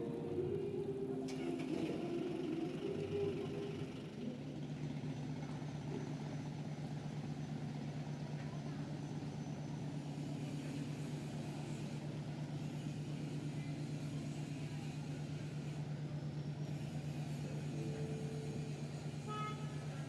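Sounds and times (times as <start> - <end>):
harbour background noise: 0.0 - 20.0
large engine running: 0.0 - 20.0.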